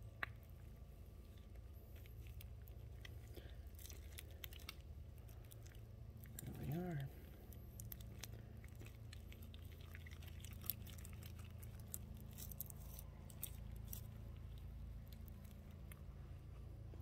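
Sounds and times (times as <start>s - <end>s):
low hum: 0.0s - 17.0s
sticky grease squelching: 0.0s - 17.0s.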